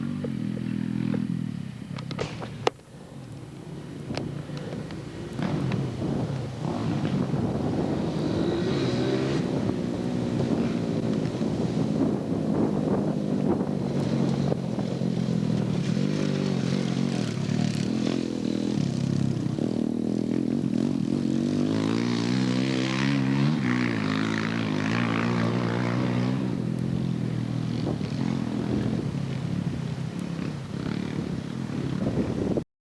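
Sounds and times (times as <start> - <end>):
dirt bike engines revving: 0.0 - 32.6.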